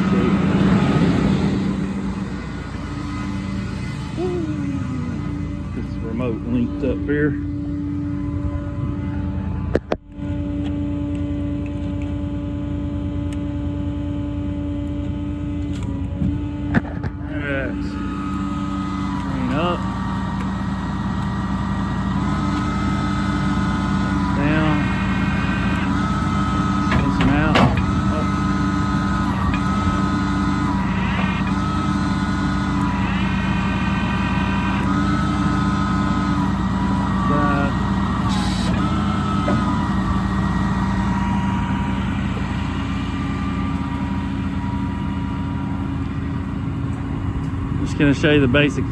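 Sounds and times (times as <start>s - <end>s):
crane drive whining: 0.0s - 48.9s
diesel truck engine humming: 0.0s - 48.9s.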